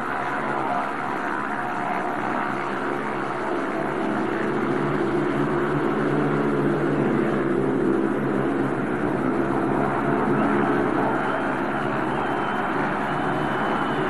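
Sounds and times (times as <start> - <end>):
motorcycle engine racing drone: 0.0 - 14.0.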